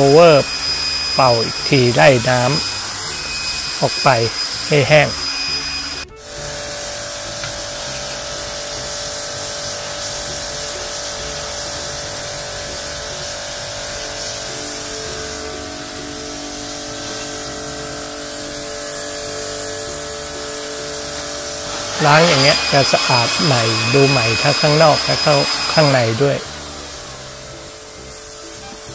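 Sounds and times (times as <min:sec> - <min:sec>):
electric blower whining: 0:00.0 - 0:28.9.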